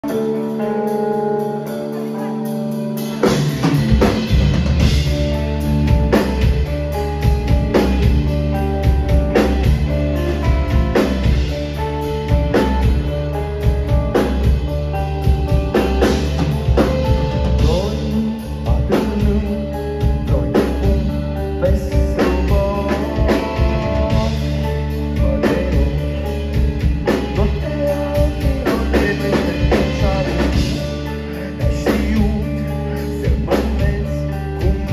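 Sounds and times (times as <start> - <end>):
drum kit driving beat: 0.0 - 34.9
rock band playing live: 0.0 - 34.9.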